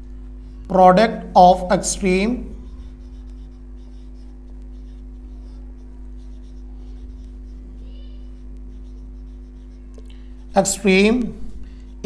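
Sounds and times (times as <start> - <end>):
electrical hum: 0.0 - 12.0
marker pen writing on whiteboard: 0.0 - 12.0
marker squeak: 0.4 - 12.0.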